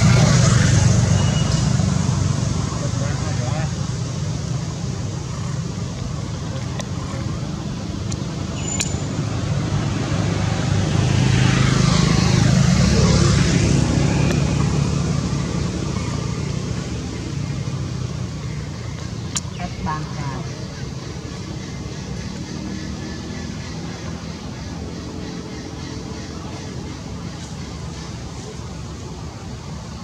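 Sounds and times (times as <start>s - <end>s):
vehicle passing by: 0.0s - 8.5s, 9.1s - 30.0s
low traffic rumble: 0.0s - 30.0s.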